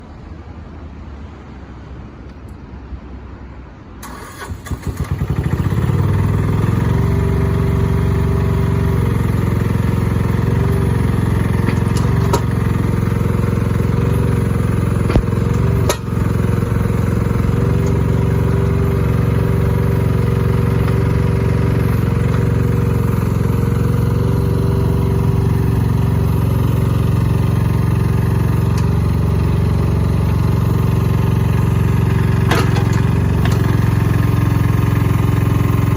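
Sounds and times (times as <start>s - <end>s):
excavator engine cranking and running: 4.0s - 35.9s.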